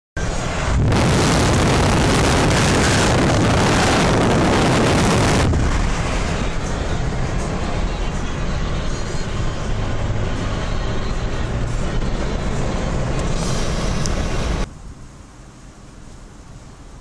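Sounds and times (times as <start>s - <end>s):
car tyres and engine rumble: 0.2s - 17.0s
wind rushing past moving car: 0.2s - 17.0s.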